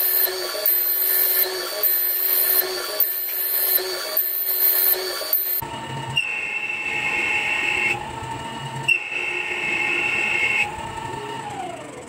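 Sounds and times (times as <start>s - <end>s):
higher machine whine: 0.0s - 12.0s
lathe spindle whine: 0.0s - 12.0s.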